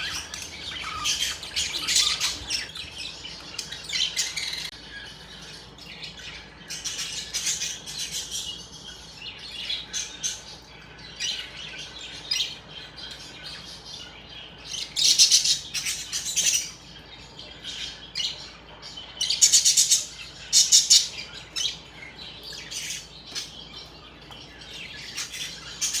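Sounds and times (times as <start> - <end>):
budgerigars chirping: 0.0 - 26.0.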